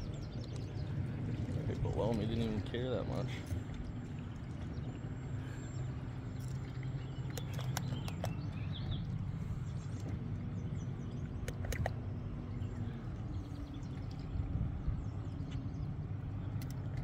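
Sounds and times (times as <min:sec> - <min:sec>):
boat motor idling: 0:00.0 - 0:17.0.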